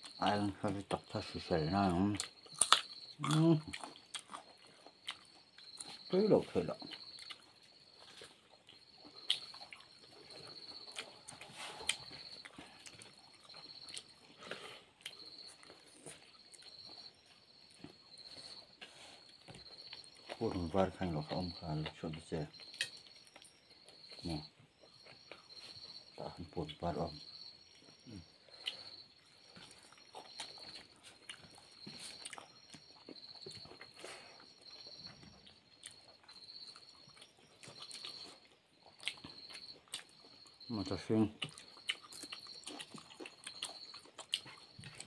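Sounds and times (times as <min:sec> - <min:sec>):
cricket chirping: 0:00.0 - 0:45.0
insects trilling: 0:00.0 - 0:45.0
people chewing and lip-smacking: 0:02.0 - 0:45.0.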